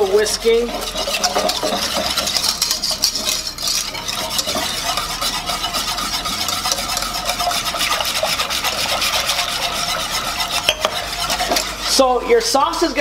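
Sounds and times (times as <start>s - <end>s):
whisk scraping a pan: 0.0s - 13.0s.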